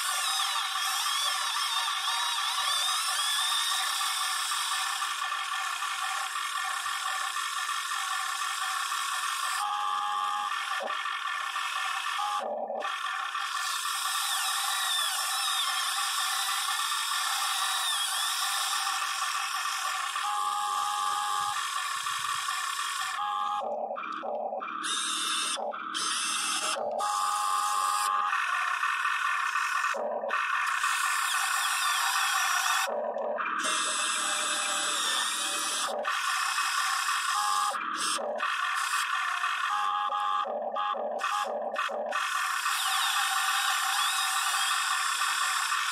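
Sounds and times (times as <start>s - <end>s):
electric gear motors whining: 0.0s - 45.9s.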